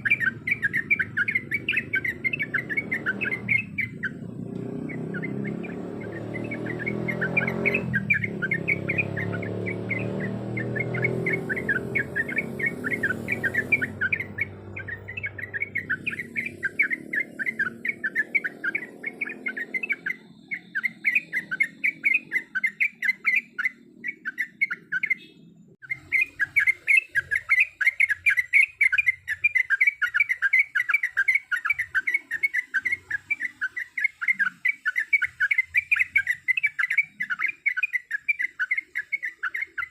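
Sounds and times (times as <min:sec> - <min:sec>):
bird chirping chatter: 0:00.0 - 0:39.9.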